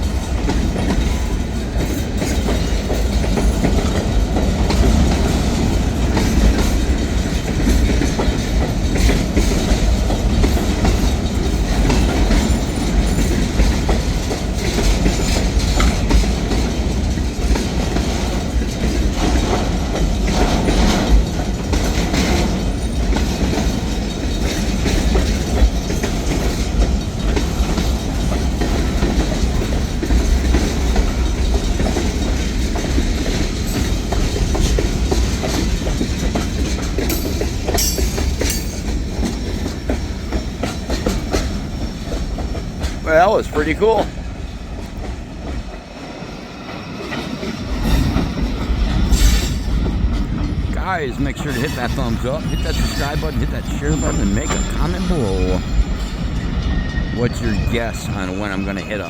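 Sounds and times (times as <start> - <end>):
wheels clacking over rail joints: 0.0 - 57.2
train cars rumbling past: 0.0 - 59.0.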